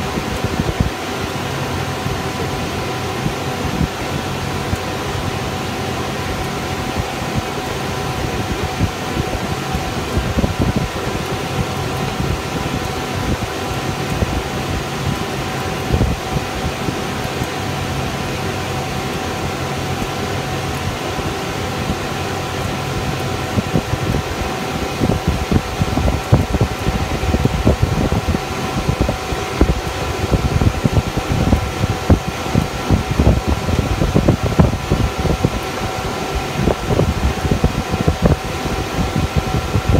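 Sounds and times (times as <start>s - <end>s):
aircraft rolling on runway rumble: 0.0s - 39.9s
jet engines whining: 0.0s - 39.9s.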